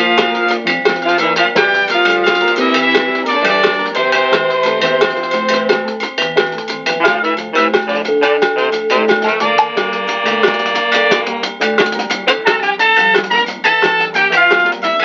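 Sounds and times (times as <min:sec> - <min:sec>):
latin dance band instrumental: 0:00.0 - 0:15.0.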